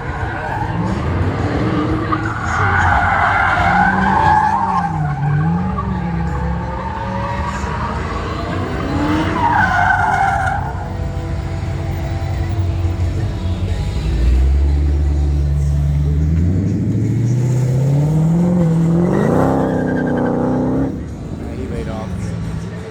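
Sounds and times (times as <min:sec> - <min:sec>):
car engine revving: 0:00.0 - 0:22.9
tires squealing: 0:00.0 - 0:22.9.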